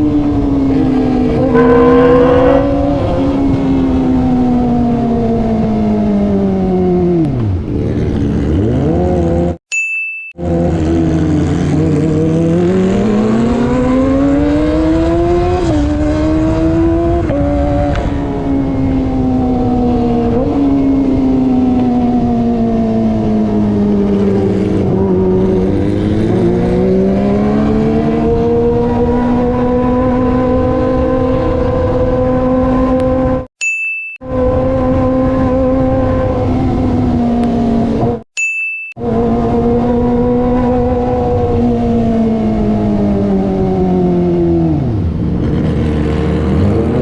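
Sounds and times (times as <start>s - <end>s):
motorcycle engine revving: 0.0s - 9.6s, 10.4s - 33.5s, 34.3s - 38.2s, 39.0s - 47.0s.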